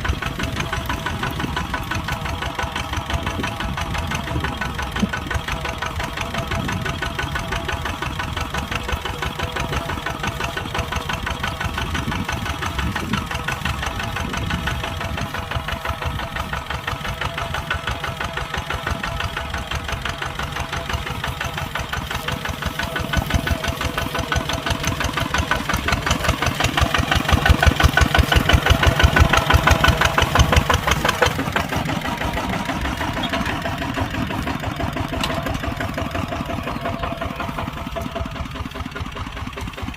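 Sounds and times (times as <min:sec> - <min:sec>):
tractor diesel engine clattering: 0:00.0 - 0:39.9.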